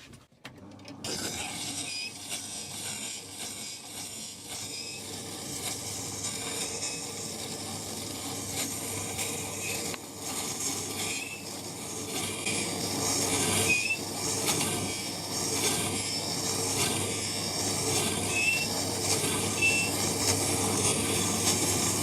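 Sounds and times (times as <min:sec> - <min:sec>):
grinder motor hum: 0:00.5 - 0:22.0.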